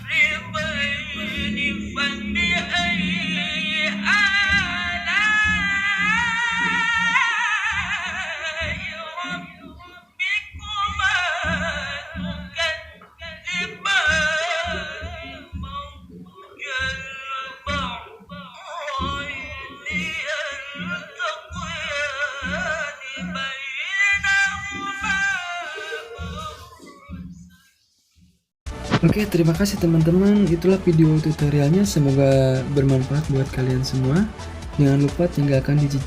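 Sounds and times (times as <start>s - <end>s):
man chanting with echo: 0.0s - 27.4s, 29.0s - 36.0s.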